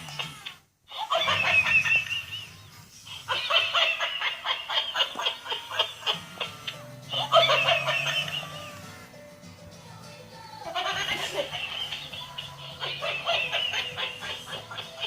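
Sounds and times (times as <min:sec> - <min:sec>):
high-pitched laughter: 0:00.0 - 0:02.6, 0:03.2 - 0:08.9, 0:10.6 - 0:15.0.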